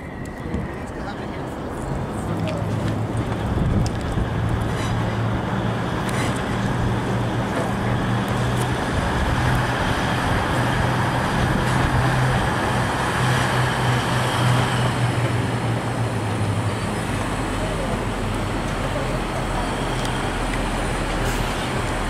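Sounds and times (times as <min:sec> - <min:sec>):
diesel train engine droning: 0:00.0 - 0:22.0
train running noise hiss: 0:03.0 - 0:22.0.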